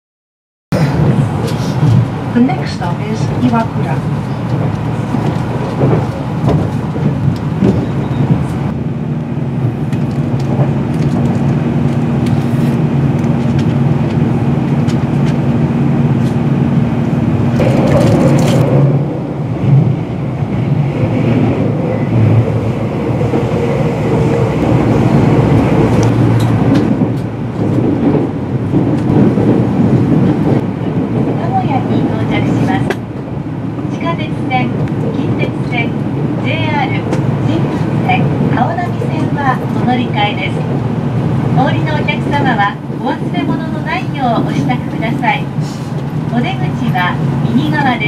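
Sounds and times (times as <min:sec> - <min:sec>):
electric train rumble: 0:00.7 - 0:48.0
train hum: 0:00.7 - 0:48.0.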